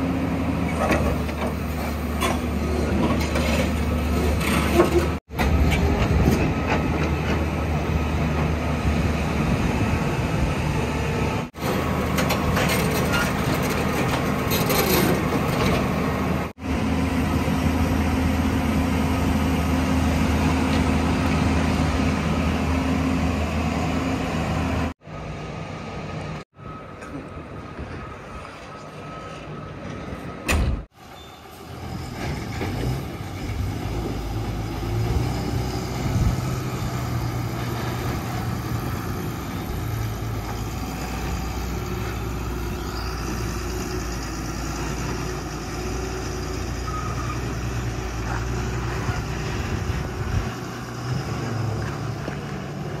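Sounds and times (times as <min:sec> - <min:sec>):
construction machinery diesel engine: 0:00.0 - 0:53.0.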